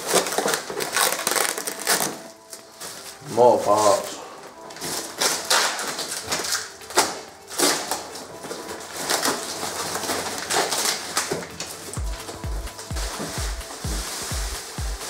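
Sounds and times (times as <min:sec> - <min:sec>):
tape and cardboard ripping: 0:00.0 - 0:03.0, 0:04.8 - 0:15.0.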